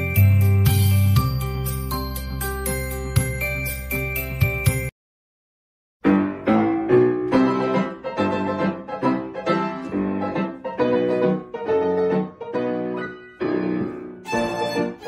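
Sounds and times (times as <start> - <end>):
piano chords: 0.0 - 4.9, 6.0 - 15.0.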